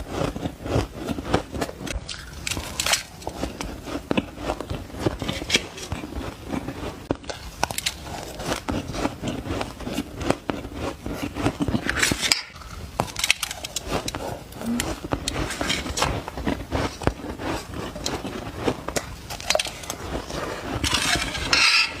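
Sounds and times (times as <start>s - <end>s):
ice crunching while chewed: 0.0s - 22.0s.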